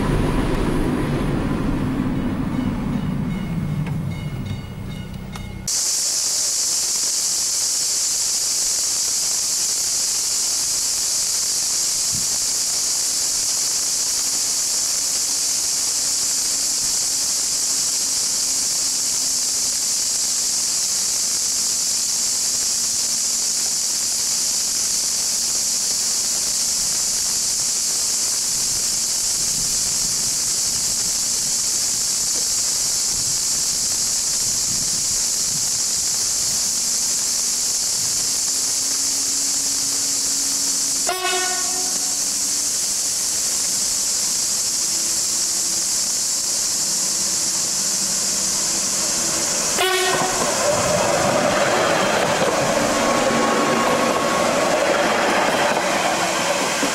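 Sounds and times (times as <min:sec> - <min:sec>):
diesel railcar low drone: 0:00.0 - 0:56.9
cicada chorus: 0:02.4 - 0:56.9.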